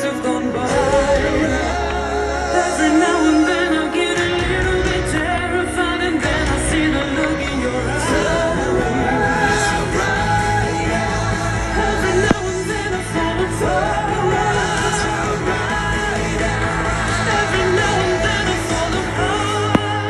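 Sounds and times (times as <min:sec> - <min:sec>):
pop music with singing: 0:00.0 - 0:20.0.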